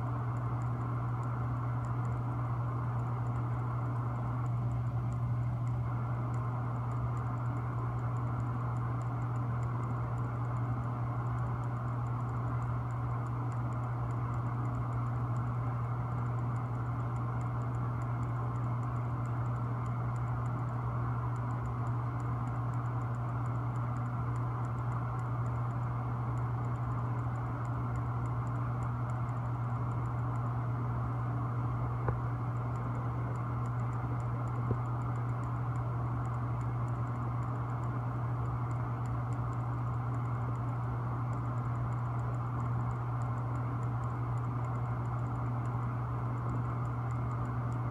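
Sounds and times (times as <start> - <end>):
faint light ticking: 0.0 - 47.9
low mechanical drone: 0.0 - 47.9.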